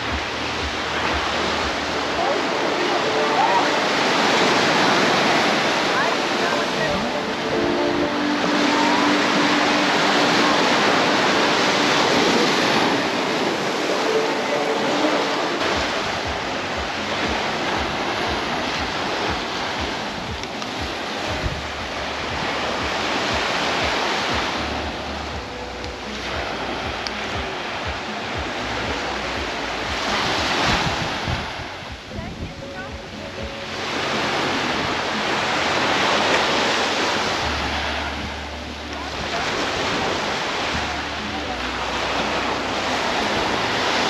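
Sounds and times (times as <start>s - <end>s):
small waves breaking on shore: 0.0s - 44.0s
wind rumbling on microphone: 0.0s - 44.0s.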